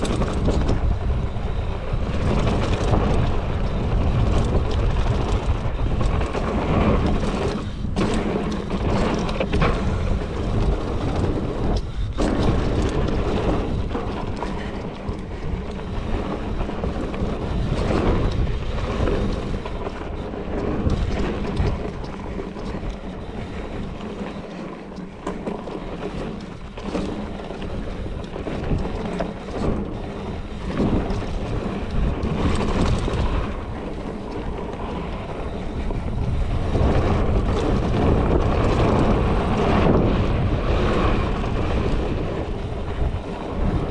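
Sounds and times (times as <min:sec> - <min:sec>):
bike rattling and knocking: 0:00.0 - 0:43.9
tyres rolling on gravel: 0:00.0 - 0:43.9
wind on microphone: 0:00.0 - 0:43.9.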